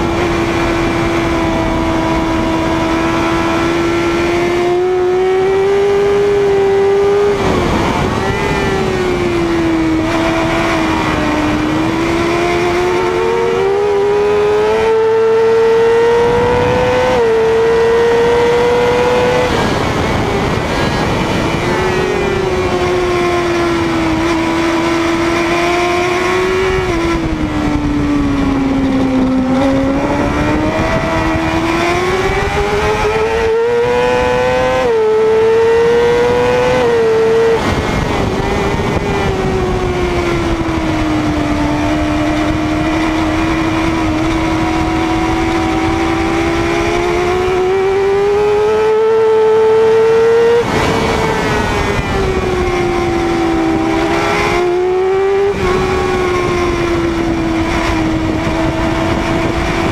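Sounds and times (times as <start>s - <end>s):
motorcycle engine revving with upshifts: 0.0s - 59.9s.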